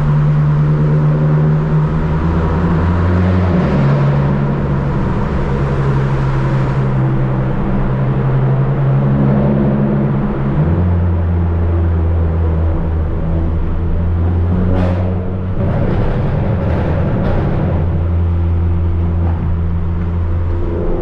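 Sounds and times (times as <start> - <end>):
car engine at steady revs: 0.0 - 21.0.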